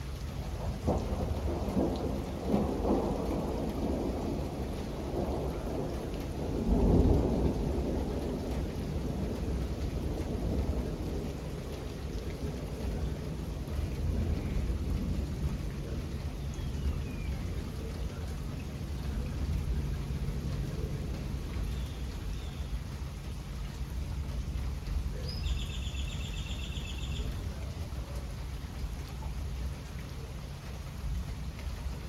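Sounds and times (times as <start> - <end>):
steady rain: 0.0 - 32.0
thunder rumbling: 0.3 - 32.0.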